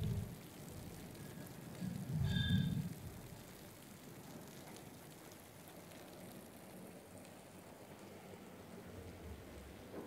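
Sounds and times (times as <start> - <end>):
rain on wet pavement: 0.0 - 10.0.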